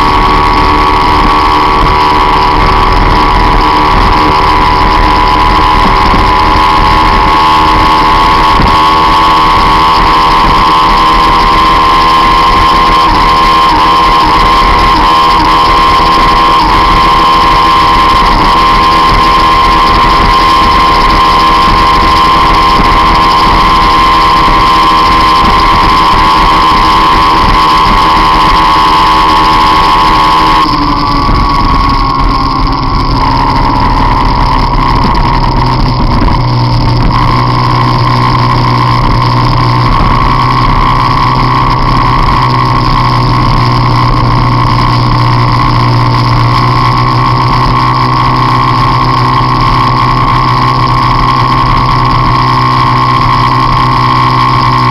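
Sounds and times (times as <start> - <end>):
scooter engine at high revs: 0.0 - 54.9
steady high whine: 0.0 - 54.9.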